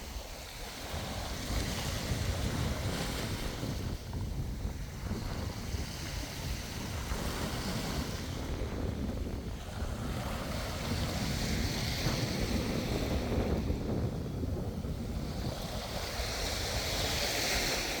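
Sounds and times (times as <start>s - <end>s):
waves washing: 0.0s - 18.0s
wind rumbling on microphone: 0.0s - 18.0s.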